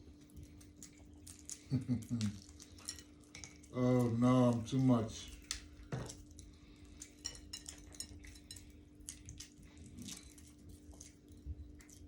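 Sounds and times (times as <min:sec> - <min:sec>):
eggs being cracked and peeled: 0:00.0 - 0:12.0
faint steady hum: 0:00.0 - 0:12.0.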